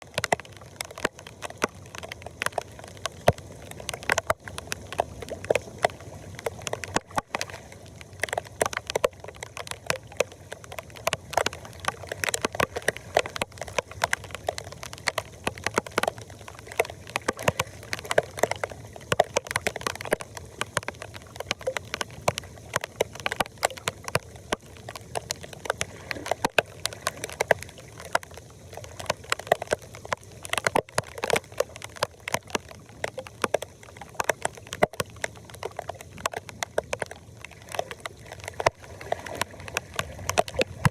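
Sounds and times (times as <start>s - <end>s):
floodwater sloshing and gurgling: 0.0s - 40.9s
sharp splashes and clicks: 0.0s - 40.9s.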